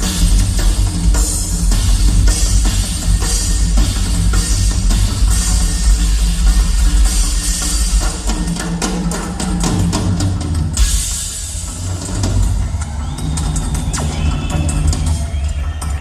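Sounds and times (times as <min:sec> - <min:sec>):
drum kit: 0:00.0 - 0:16.0
rock music: 0:00.0 - 0:16.0.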